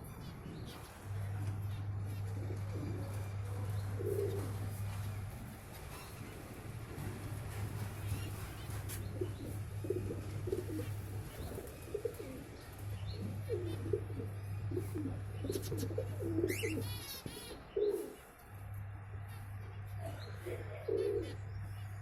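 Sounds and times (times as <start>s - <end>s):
doves cooing: 0.0s - 18.6s, 19.2s - 22.0s
steady low hum: 0.0s - 22.0s.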